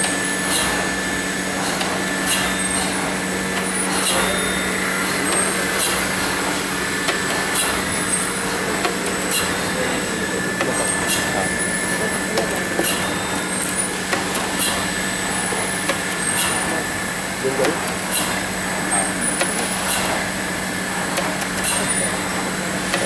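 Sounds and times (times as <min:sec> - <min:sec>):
extrusion line humming: 0:00.0 - 0:23.0.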